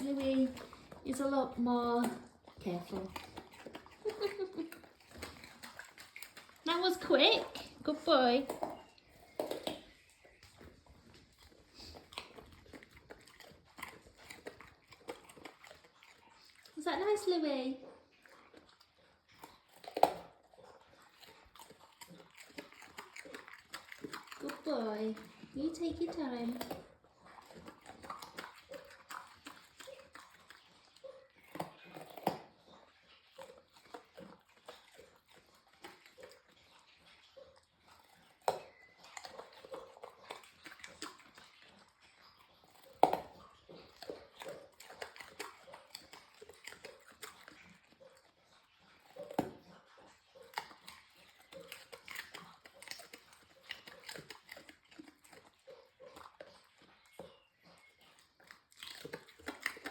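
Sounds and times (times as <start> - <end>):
dog lapping water: 0.0 - 59.9
dogs crunching carrots: 0.0 - 59.9.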